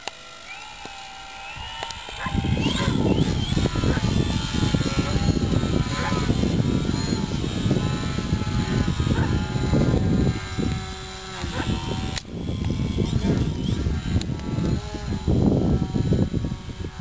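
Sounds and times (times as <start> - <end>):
electric propeller motor whining: 0.0 - 17.0
wind buffeting microphone: 1.6 - 17.0.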